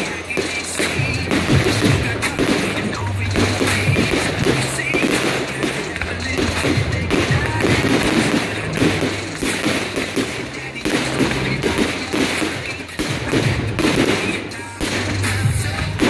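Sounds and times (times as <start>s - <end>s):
bangs and crackles: 0.0s - 16.0s
fireworks bursting: 0.0s - 16.0s
music playing: 0.0s - 16.0s.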